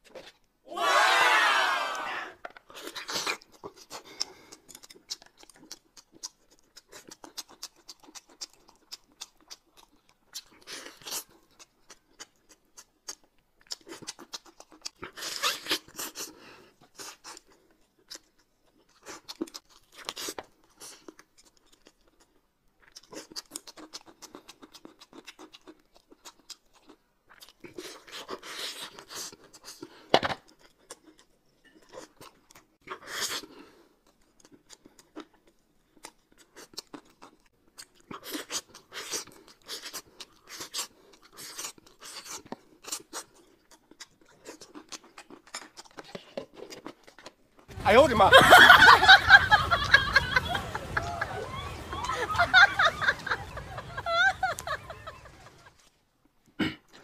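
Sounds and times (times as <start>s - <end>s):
chewing and crunching: 2.4s - 48.3s.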